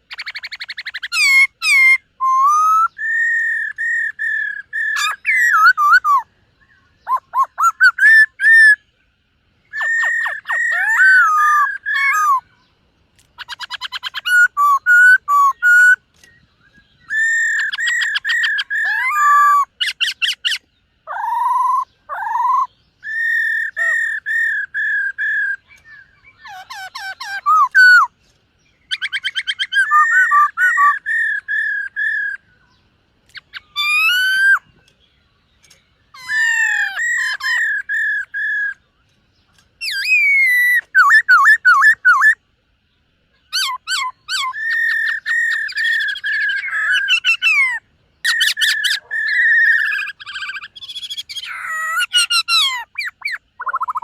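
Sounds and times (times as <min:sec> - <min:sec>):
bird whistled song: 0:00.0 - 0:12.8, 0:13.4 - 0:54.0.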